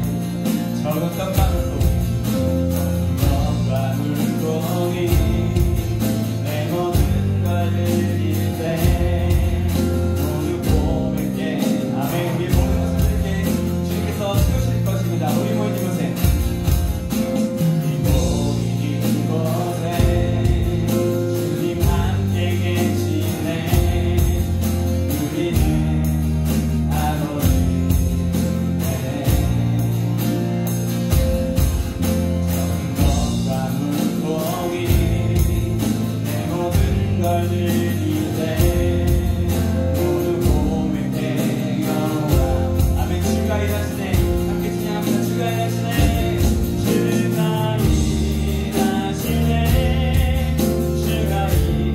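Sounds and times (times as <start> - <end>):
acoustic guitar: 0.0 - 51.9
bass guitar long notes: 0.0 - 51.9
keyboard: 0.0 - 51.9.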